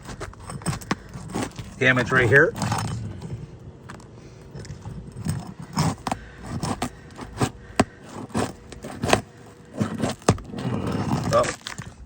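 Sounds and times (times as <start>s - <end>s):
roof shingles clicking and scraping: 0.0s - 12.0s.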